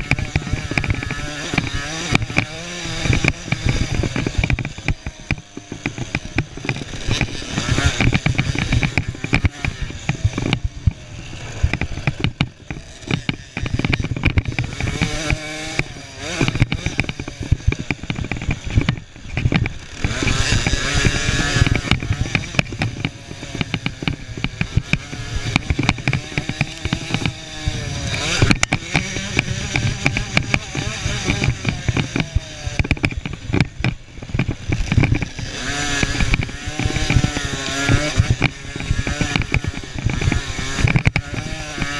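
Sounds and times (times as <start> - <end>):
motocross bike engines revving: 0.0 - 41.9.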